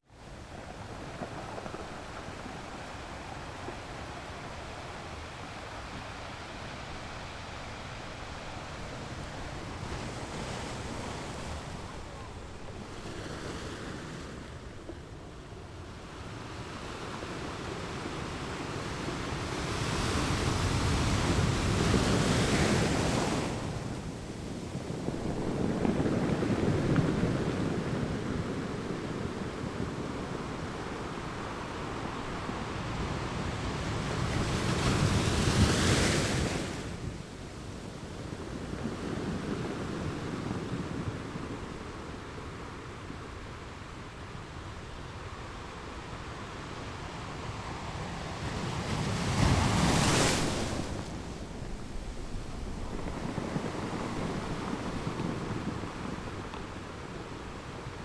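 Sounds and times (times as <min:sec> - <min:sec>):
ocean waves washing ashore: 0:00.0 - 0:58.0.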